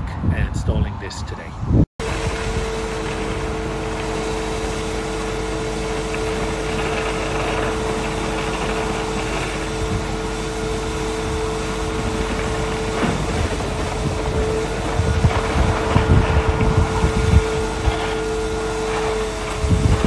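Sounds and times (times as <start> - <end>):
concrete pump humming: 2.0 - 20.0.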